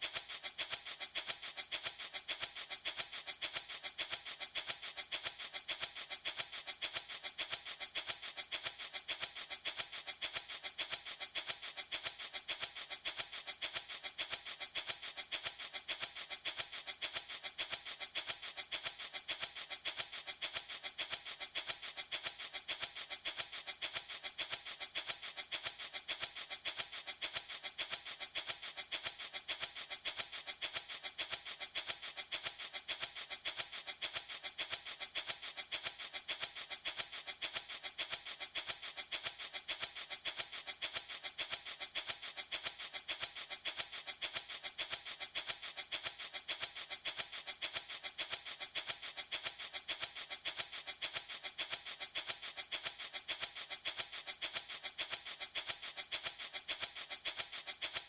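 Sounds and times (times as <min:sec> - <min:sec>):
baby rattle shaken: 0:00.0 - 0:58.0.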